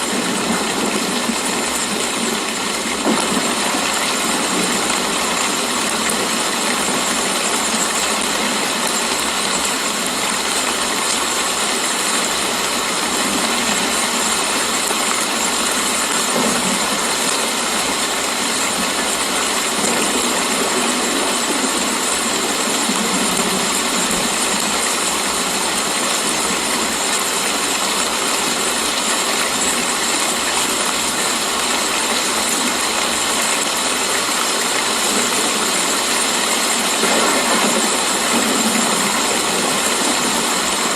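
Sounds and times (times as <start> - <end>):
faint rain patters: 0.0 - 40.9
rain hissing: 0.0 - 40.9.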